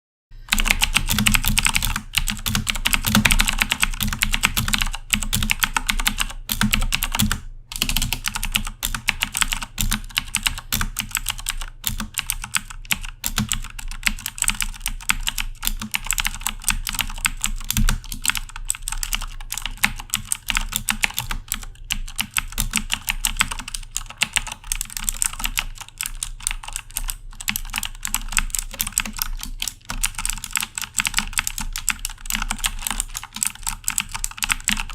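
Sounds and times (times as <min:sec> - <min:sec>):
clicky mechanical keyboard typing: 0:00.5 - 0:34.9.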